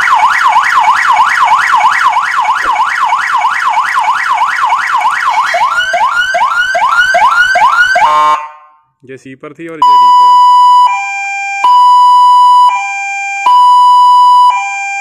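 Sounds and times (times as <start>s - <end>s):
police siren: 0.0s - 8.7s, 9.9s - 15.0s.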